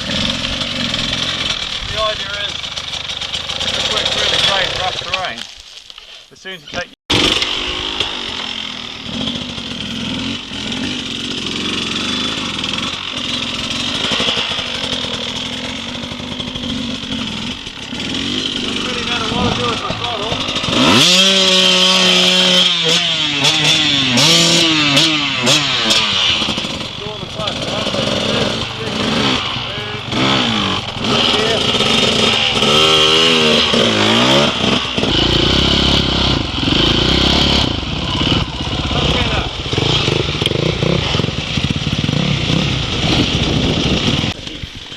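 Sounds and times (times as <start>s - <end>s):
dirt bike engine revving: 0.0s - 5.4s, 6.8s - 44.9s.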